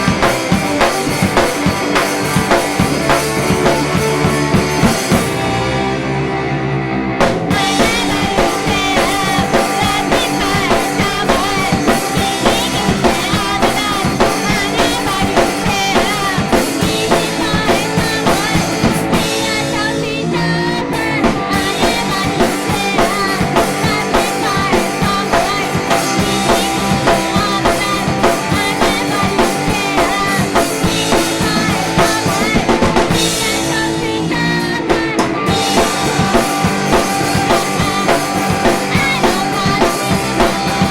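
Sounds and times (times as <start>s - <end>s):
drum kit beat: 0.0s - 6.3s, 7.2s - 40.9s
indie pop band playing: 0.0s - 40.9s.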